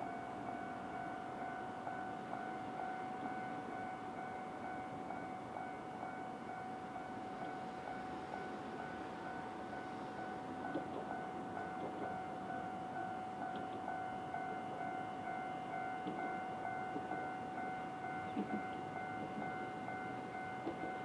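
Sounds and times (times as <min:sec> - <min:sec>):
faint street background: 0:00.0 - 0:21.0
level crossing warning bell: 0:00.0 - 0:21.0.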